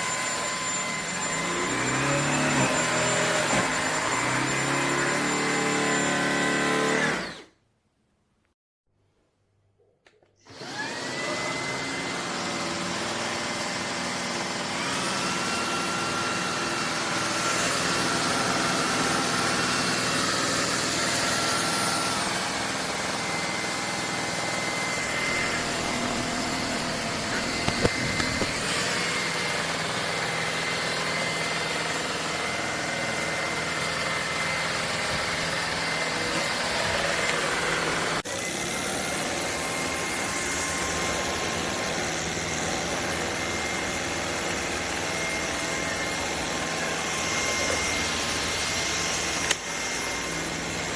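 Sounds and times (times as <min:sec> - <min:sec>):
stick vacuum whining: 0:00.0 - 0:07.6, 0:10.0 - 0:50.9.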